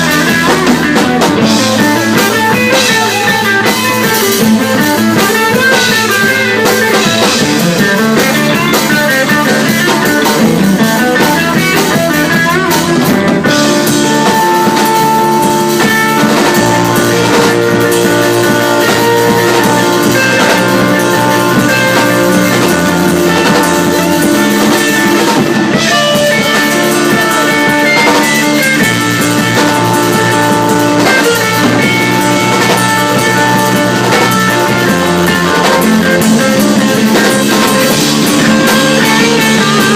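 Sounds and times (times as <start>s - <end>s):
rock music with guitar and drums: 0.0s - 39.9s.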